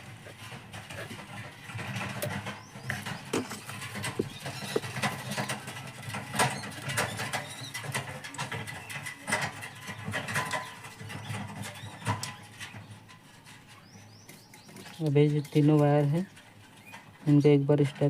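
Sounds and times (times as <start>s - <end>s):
wires and parts clicking and rustling: 0.0s - 18.0s.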